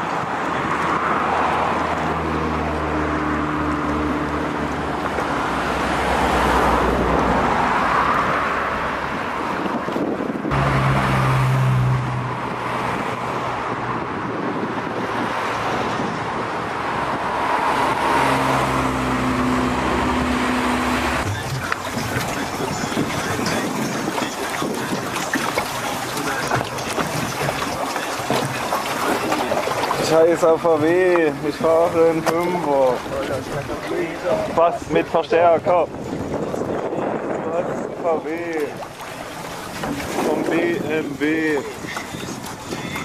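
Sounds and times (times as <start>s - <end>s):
car engines passing: 0.0s - 43.0s
road noise rush: 0.0s - 43.0s.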